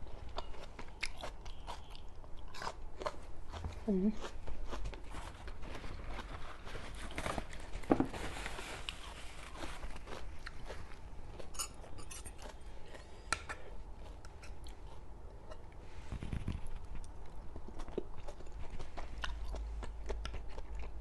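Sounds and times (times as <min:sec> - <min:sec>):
chewing and crunching food: 0:00.0 - 0:07.8, 0:08.4 - 0:21.0.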